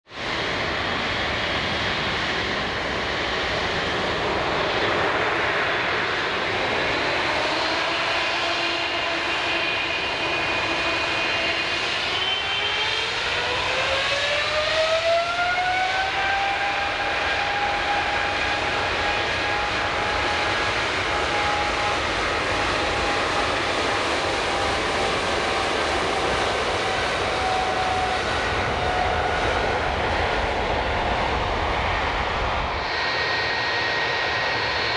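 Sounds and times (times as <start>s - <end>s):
jet engines spooling up: 0.2s - 34.9s.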